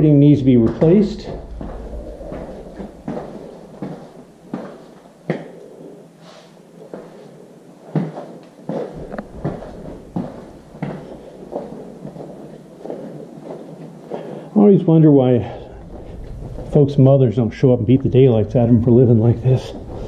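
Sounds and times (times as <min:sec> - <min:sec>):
footsteps on tile floor: 0:00.6 - 0:14.7, 0:15.4 - 0:17.1, 0:18.6 - 0:20.0.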